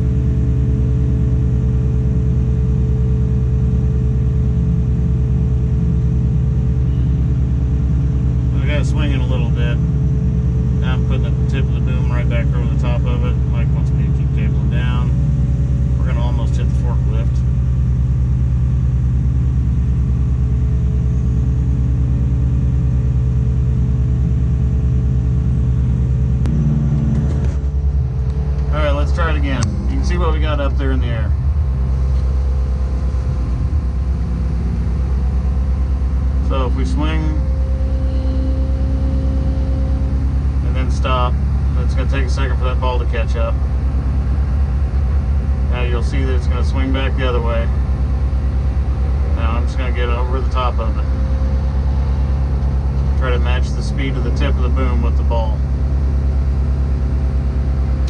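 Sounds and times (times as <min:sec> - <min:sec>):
diesel engine hum: 0:00.0 - 0:58.0
steady tone: 0:00.0 - 0:58.0.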